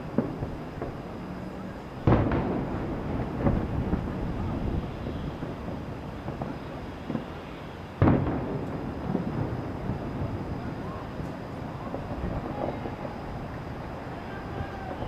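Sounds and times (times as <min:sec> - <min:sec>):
distant fireworks booming: 0:00.0 - 0:15.0.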